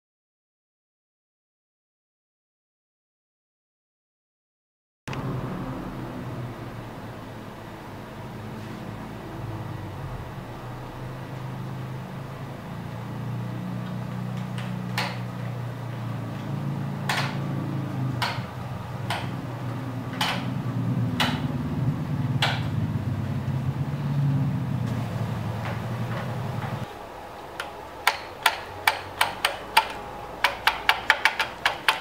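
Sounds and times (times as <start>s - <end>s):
spin bike flywheel whir: 5.1s - 32.0s.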